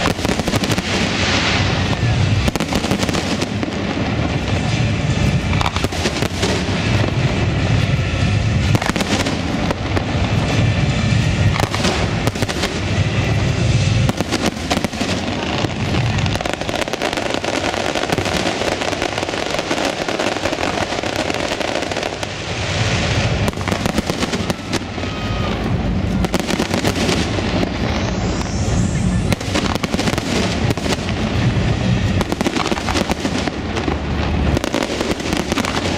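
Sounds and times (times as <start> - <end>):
fireworks bangs and pops: 0.0 - 35.9.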